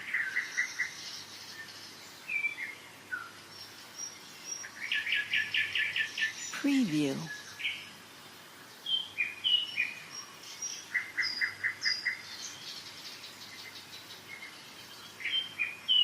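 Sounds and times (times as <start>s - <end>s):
faint river hiss: 0.0s - 16.0s
songbirds singing and chirping: 0.0s - 16.0s.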